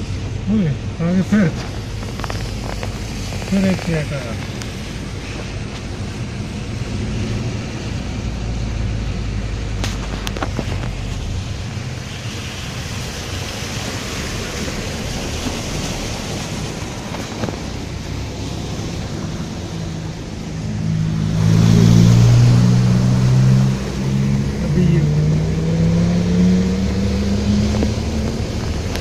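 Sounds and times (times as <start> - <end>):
car engine running: 0.0 - 29.0
water rush and road noise: 0.0 - 29.0.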